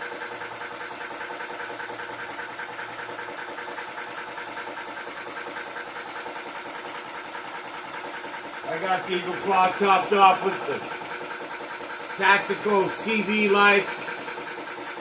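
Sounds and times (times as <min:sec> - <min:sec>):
air compressor pulsing: 0:00.0 - 0:15.0.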